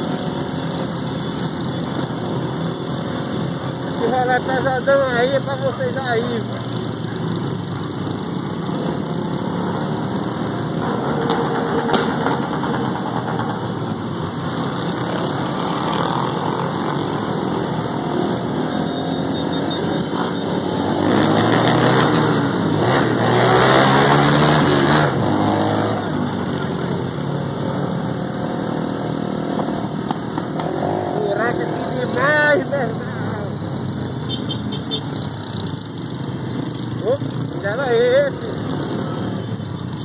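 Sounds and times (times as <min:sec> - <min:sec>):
motorcycle engines running: 0:00.0 - 0:40.0.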